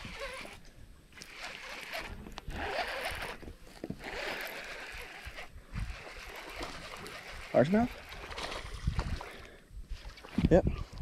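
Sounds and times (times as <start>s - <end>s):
fishing reel whirring: 0.0s - 9.5s.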